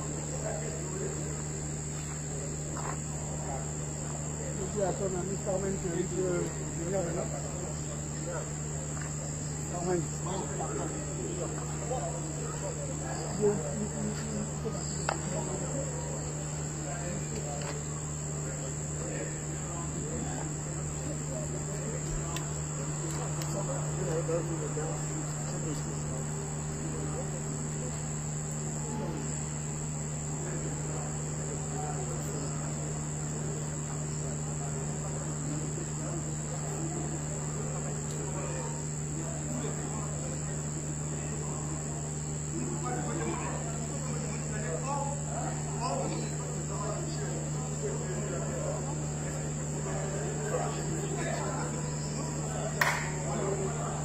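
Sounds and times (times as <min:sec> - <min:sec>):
crickets trilling: 0:00.0 - 0:54.0
distant voices: 0:00.0 - 0:54.0
night insects chirring: 0:00.0 - 0:54.0.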